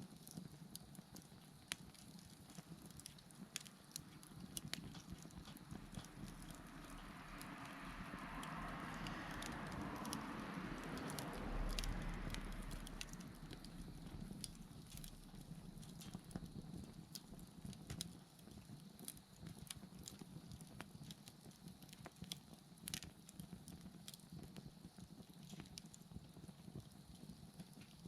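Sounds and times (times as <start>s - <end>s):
low rumble of fire: 0.0s - 28.0s
wood crackling and popping: 0.0s - 28.0s.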